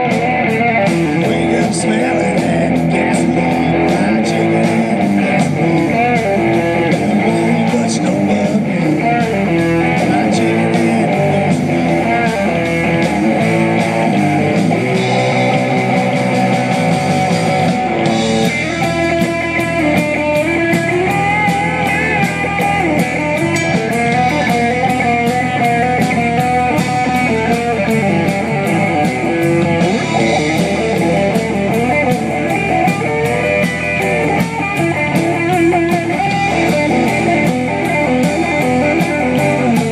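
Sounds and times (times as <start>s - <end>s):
lead guitar: 0.0s - 39.9s
live rock band playing: 0.0s - 39.9s.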